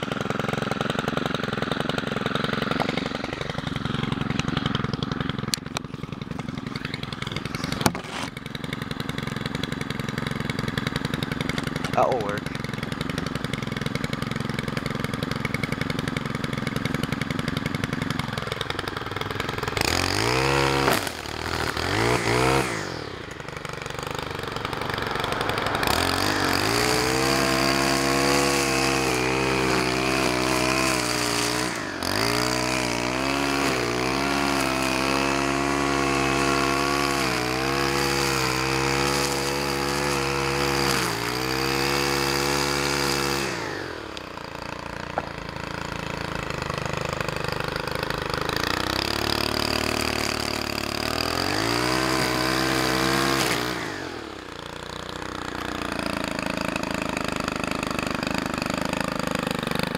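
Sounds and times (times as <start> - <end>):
string trimmer engine revving: 0.0 - 59.9
trimmer cutting grass: 0.0 - 59.9.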